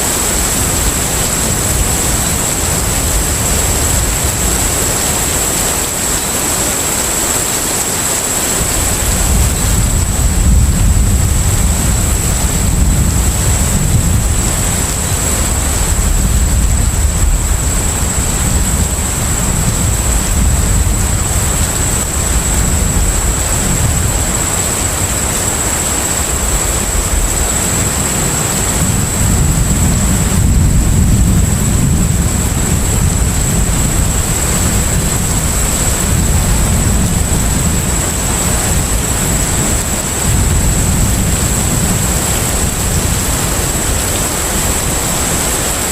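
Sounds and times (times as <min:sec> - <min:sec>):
sea and wind noise: 0:00.0 - 0:45.9
ship engine rumble: 0:00.0 - 0:45.9.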